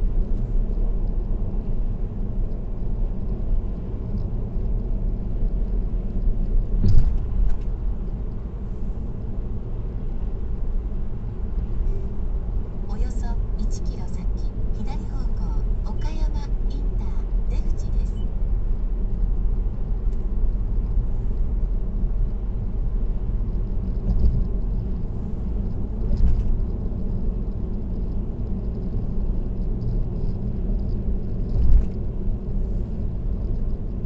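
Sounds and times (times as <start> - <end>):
car road noise: 0.0 - 34.0.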